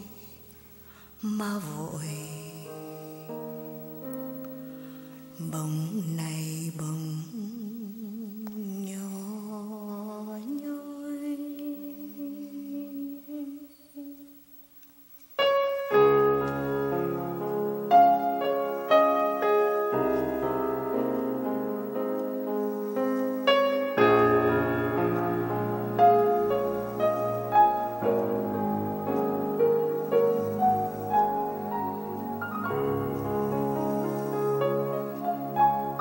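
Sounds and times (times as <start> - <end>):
slow piano ballad: 0.0 - 14.2, 15.3 - 36.0.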